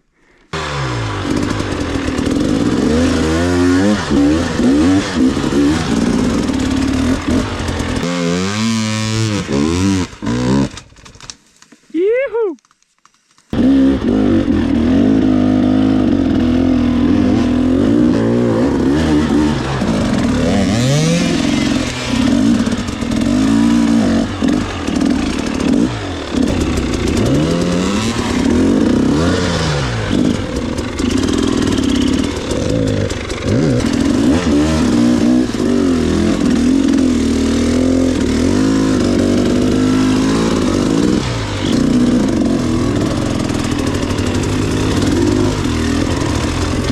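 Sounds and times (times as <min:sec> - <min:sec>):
dirt bike engine revving: 0:00.5 - 0:10.8, 0:13.6 - 0:46.9.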